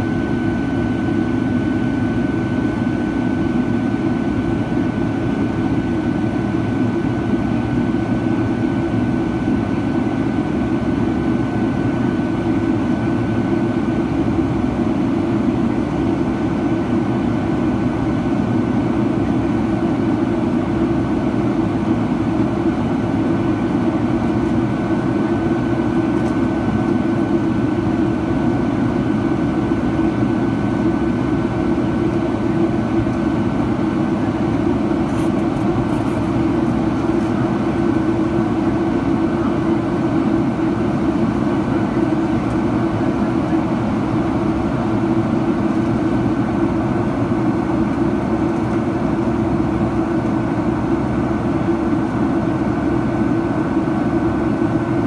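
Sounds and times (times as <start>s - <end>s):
jet engine cabin roar: 0.0s - 55.0s
thin steady whine: 0.0s - 55.0s.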